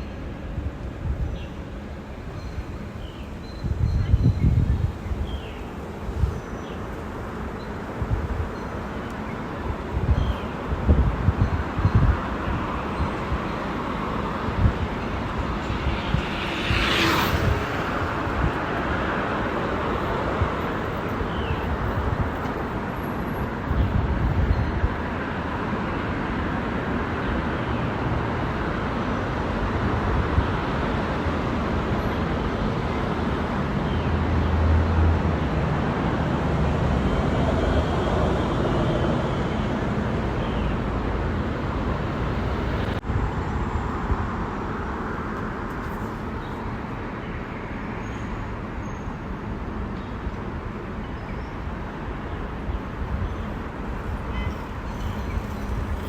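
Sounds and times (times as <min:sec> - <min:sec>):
road traffic rush: 0:00.0 - 0:56.0.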